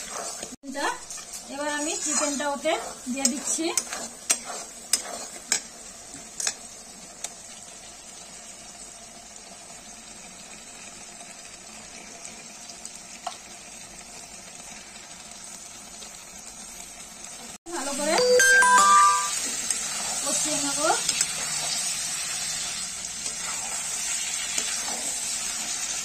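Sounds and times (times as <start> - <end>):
chicken sizzling in oil: 0.0 - 26.0.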